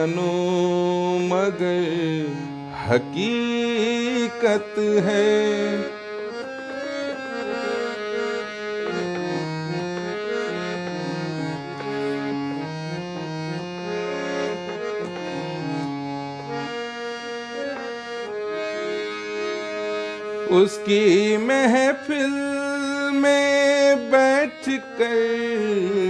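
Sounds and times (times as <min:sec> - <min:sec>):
harmonium melody: 0:00.0 - 0:26.0.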